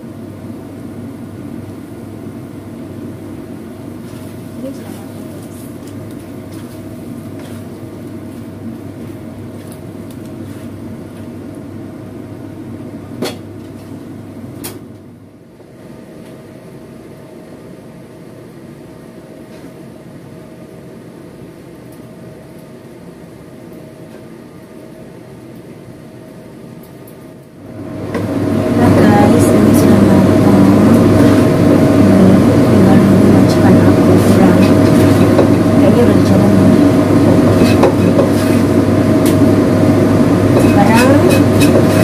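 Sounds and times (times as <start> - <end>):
low kitchen hum: 0.0 - 42.0.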